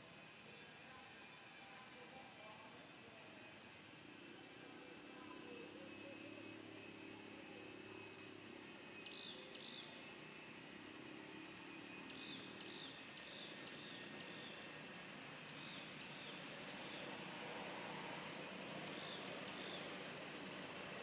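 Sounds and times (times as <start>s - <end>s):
insect chirps: 0.0s - 21.0s
insect high-pitched drone: 0.0s - 21.0s.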